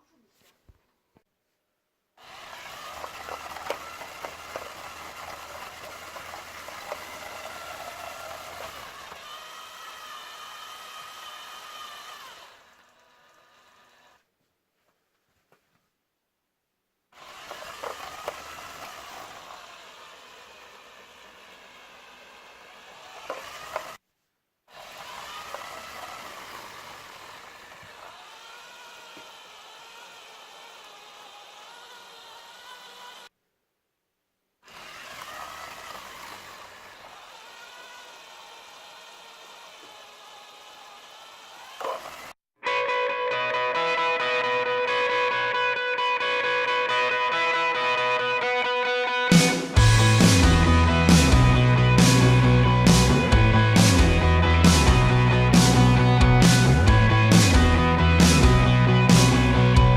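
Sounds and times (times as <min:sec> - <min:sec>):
small electric motor whining: 0:02.2 - 0:14.3, 0:17.2 - 0:24.0, 0:24.7 - 0:33.3, 0:34.6 - 0:42.4, 0:43.6 - 0:59.9.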